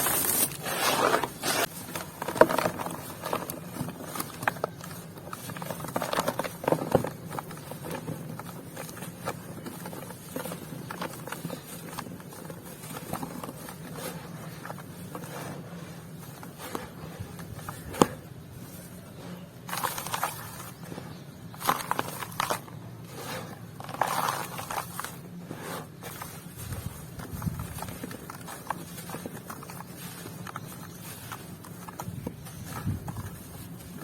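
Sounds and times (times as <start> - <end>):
dry lumps being crushed: 0.0 - 34.0.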